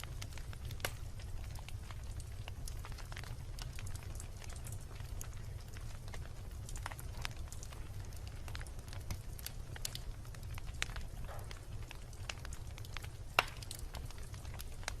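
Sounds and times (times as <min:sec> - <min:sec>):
low steady rumble: 0:00.0 - 0:15.0
wood bonfire crackling: 0:00.0 - 0:15.0.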